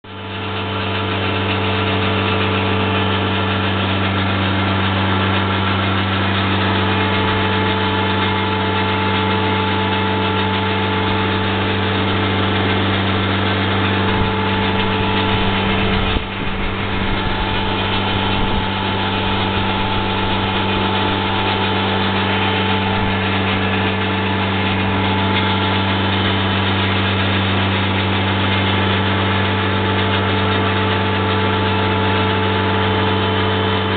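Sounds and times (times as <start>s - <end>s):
low mechanical hum: 0.1s - 33.9s.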